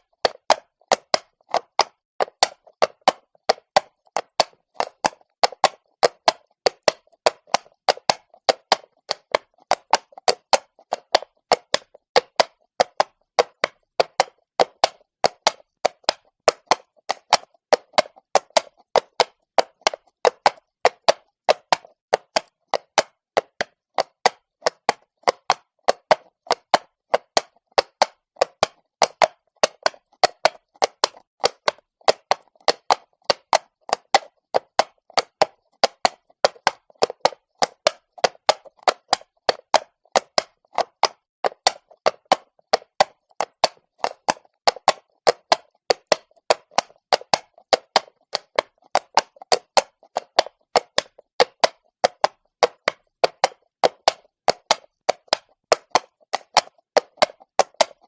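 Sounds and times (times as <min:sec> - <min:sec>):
horse hooves clopping on stone: 0:00.0 - 0:58.0.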